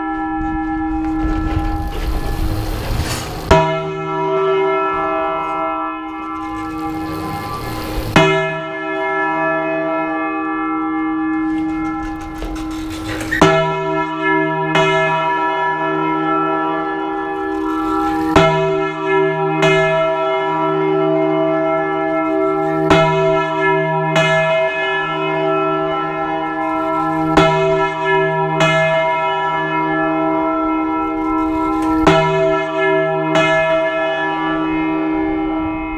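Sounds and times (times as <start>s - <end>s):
large church bell ringing: 0.0s - 35.9s.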